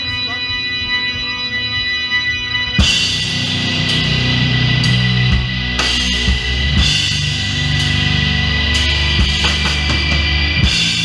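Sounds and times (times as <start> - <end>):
distorted guitar and bass: 0.0 - 11.0
drums: 0.0 - 11.0.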